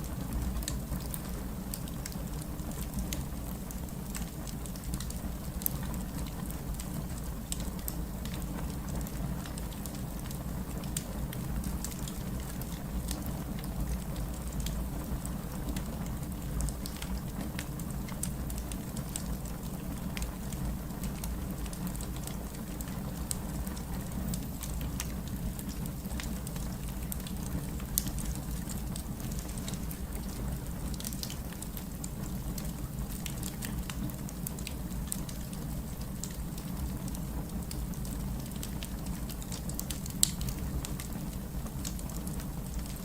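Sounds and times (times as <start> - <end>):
low fire rumble: 0.0 - 43.0
wood fire crackling: 0.0 - 43.0.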